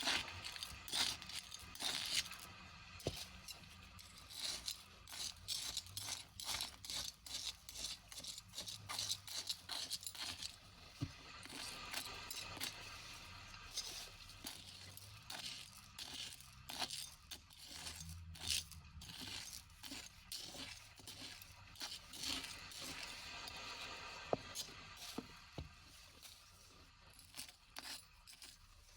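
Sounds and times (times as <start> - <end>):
hands handling small hard objects: 0.0 - 28.9.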